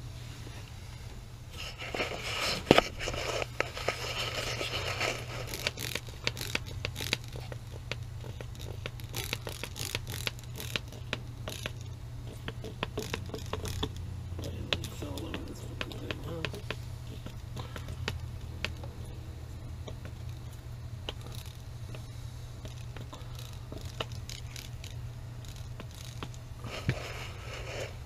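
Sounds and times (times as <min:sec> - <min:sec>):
rustling and scraping handling: 0:00.2 - 0:28.0.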